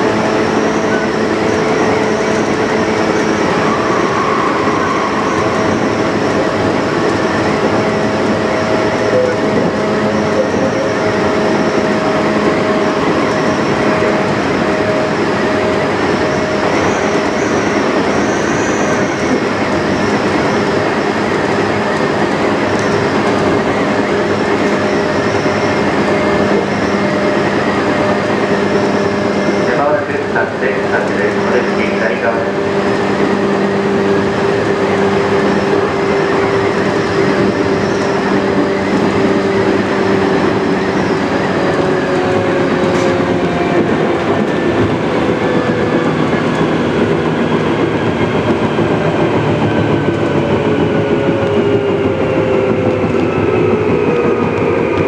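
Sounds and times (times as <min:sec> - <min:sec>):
train motor and gear hum: 0:00.0 - 0:55.0
train wheels on rails: 0:00.0 - 0:55.0.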